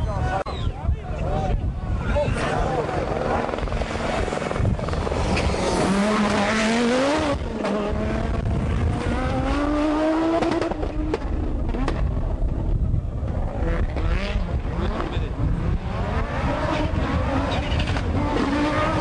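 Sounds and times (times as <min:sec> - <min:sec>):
rally car engine accelerating: 0:02.3 - 0:19.0
exhaust cracks: 0:02.4 - 0:09.4, 0:10.3 - 0:19.0.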